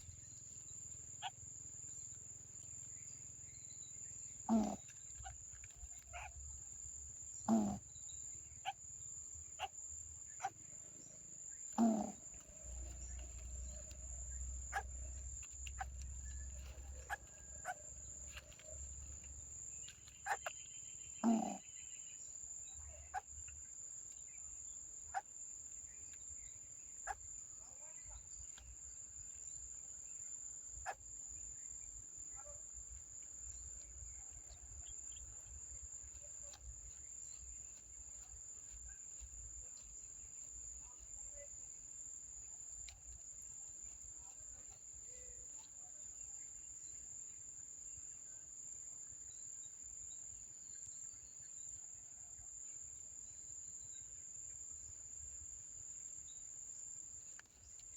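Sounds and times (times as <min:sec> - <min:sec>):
insects droning: 0:00.0 - 0:57.9.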